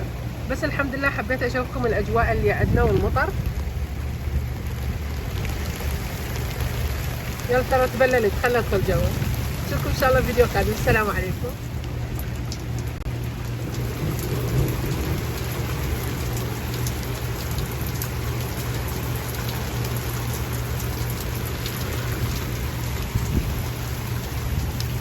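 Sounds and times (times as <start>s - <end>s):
raindrop ticks: 2.5s - 25.0s
rain hissing: 2.6s - 25.0s.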